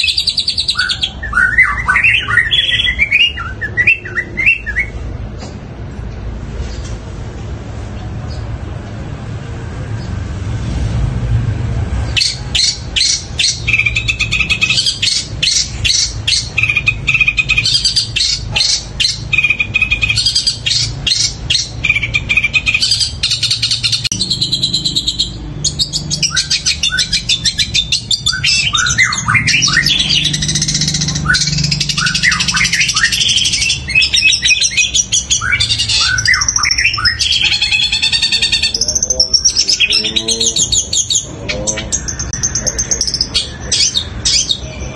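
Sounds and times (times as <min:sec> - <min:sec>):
bird chattering song: 0:00.0 - 0:05.4, 0:07.8 - 0:08.6, 0:12.0 - 0:44.9.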